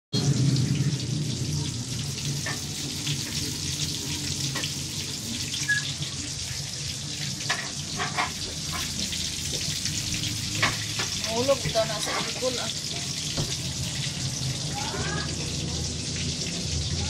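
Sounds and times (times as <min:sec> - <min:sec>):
chicken frying in hot oil: 0:00.1 - 0:17.0
oil popping and crackling: 0:00.2 - 0:17.0.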